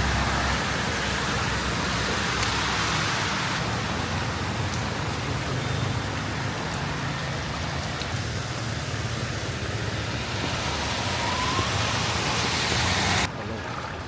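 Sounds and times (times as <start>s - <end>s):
rain hissing: 0.0s - 13.3s
vehicle engines humming: 0.0s - 13.3s.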